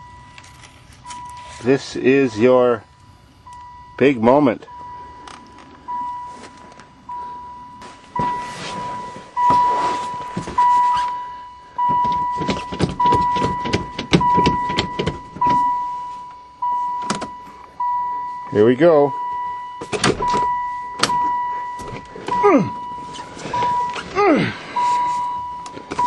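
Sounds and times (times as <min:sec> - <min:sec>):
van warning chime dinging: 0:00.0 - 0:26.0.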